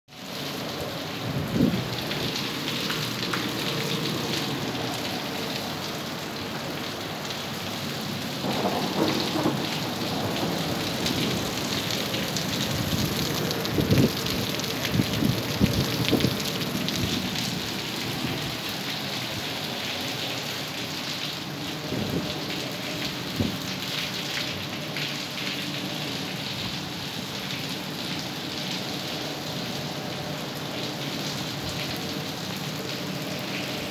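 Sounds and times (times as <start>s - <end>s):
heavy rain on concrete: 0.1s - 33.9s.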